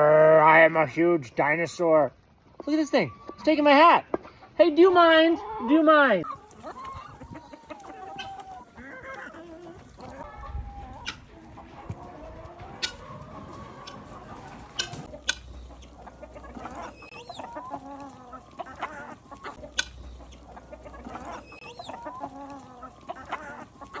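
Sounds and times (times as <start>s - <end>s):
fowl clucking: 2.5s - 24.0s.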